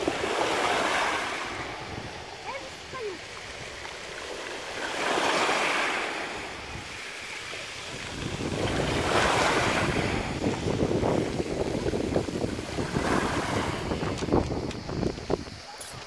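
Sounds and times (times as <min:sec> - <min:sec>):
waves washing on pebbles: 0:00.0 - 0:16.0
wind rumble on microphone: 0:00.0 - 0:16.0.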